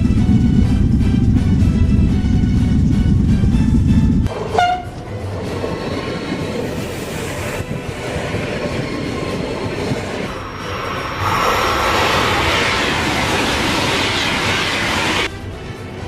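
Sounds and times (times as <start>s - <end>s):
high-speed train on rails: 0.0s - 16.0s.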